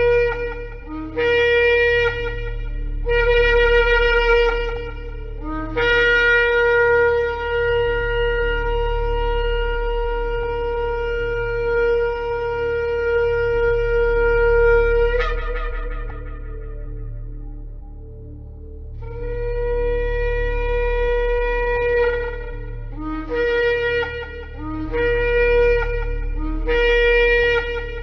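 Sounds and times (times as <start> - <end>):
low steady hum: 0.0 - 28.0
ram's horn blowing: 0.0 - 28.0.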